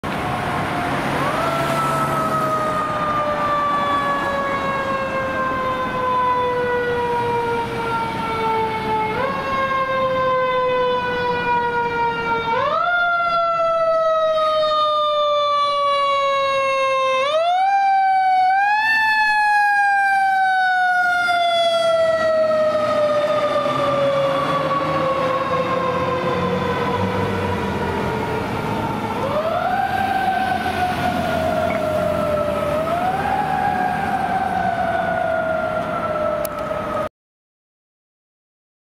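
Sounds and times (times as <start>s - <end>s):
engine and traffic rumble: 0.0s - 37.1s
fire engine siren wailing: 0.0s - 37.1s.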